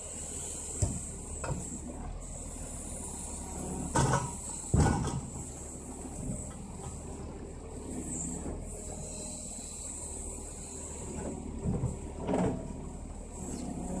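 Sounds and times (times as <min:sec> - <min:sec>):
diesel truck engine running: 0:00.0 - 0:14.0
crane knocks and metal clunks: 0:00.6 - 0:09.3, 0:10.6 - 0:14.0.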